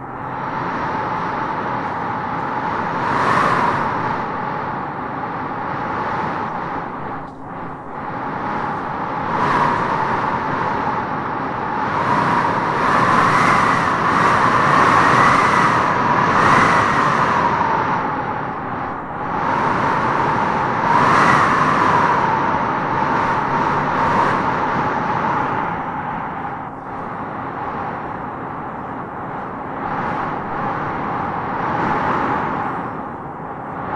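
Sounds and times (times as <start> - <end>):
strong gusting wind whistling: 0.0 - 33.9.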